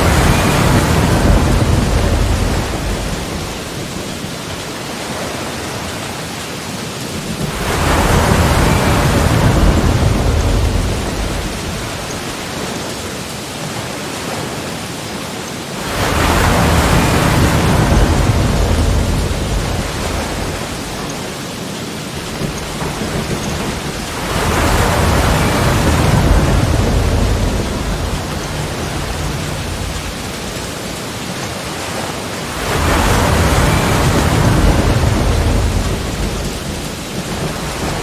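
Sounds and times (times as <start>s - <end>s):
sea waves breaking: 0.0s - 38.0s
surf hiss: 0.0s - 38.0s.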